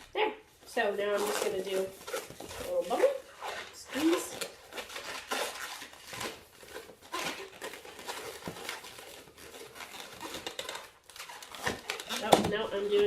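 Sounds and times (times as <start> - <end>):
balloon rubbing and crinkling: 0.0 - 13.0
balloon squeaks: 0.0 - 13.0.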